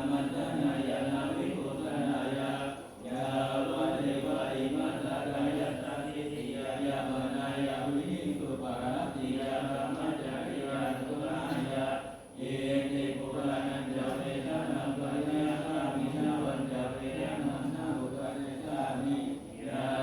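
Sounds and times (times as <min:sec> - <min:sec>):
men chanting in unison: 0:00.0 - 0:20.0.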